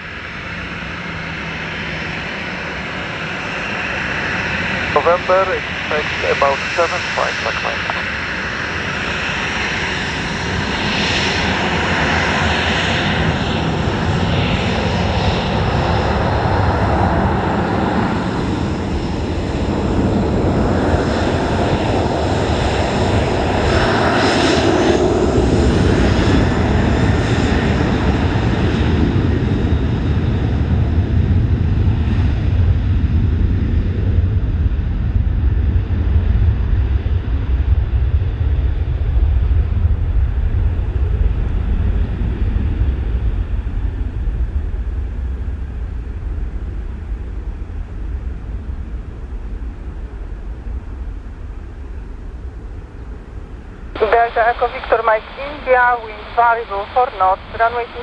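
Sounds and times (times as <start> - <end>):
jet airliner engines: 0.0 - 58.0.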